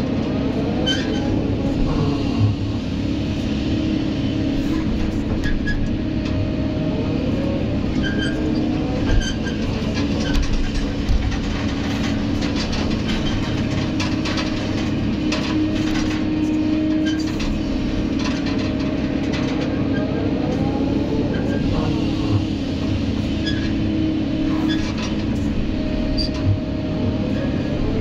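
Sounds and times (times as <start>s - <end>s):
excavator engine and hydraulics humming: 0.0s - 28.0s.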